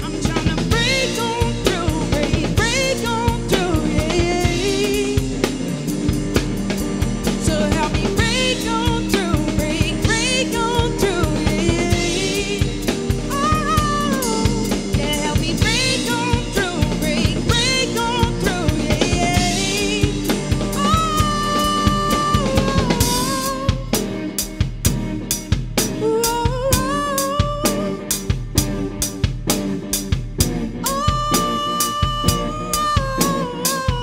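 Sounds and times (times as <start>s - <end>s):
woman singing: 0.0s - 6.2s, 7.2s - 24.2s, 25.9s - 29.0s, 30.8s - 34.0s
drum kit beat: 0.0s - 34.0s
electric guitar: 0.0s - 34.0s.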